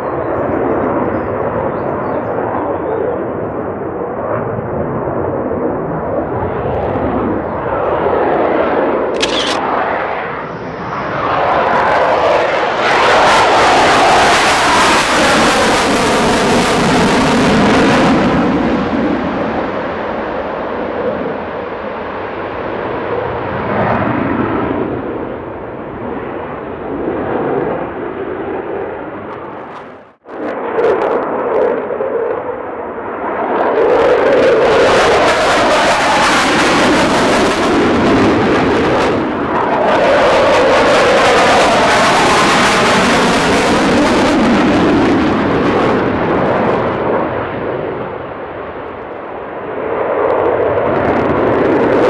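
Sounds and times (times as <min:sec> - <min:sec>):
fighter jet engine roar: 0:00.0 - 0:52.0.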